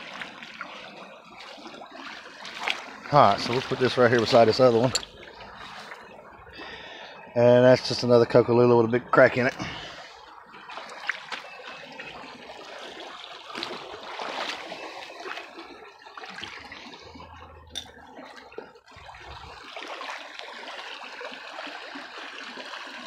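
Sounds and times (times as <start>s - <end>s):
creek water trickling over gravel: 0.0s - 8.4s, 9.0s - 23.0s.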